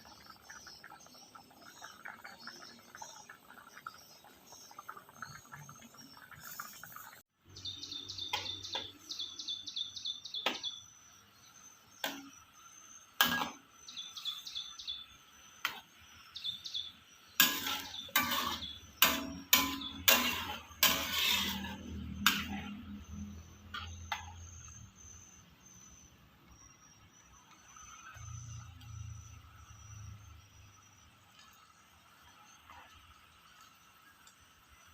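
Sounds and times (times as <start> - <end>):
small birds chirping: 0.0 - 34.5.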